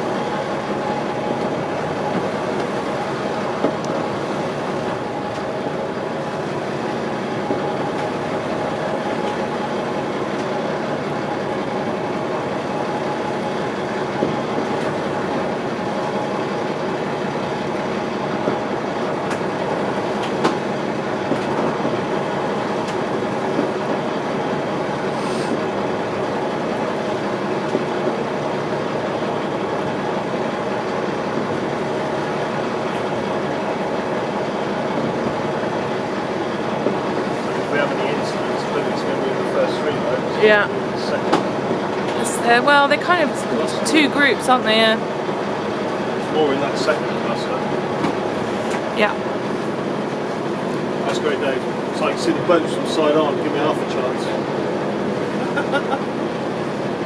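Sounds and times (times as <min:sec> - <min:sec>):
motor boat engine drone: 0:00.0 - 0:57.0.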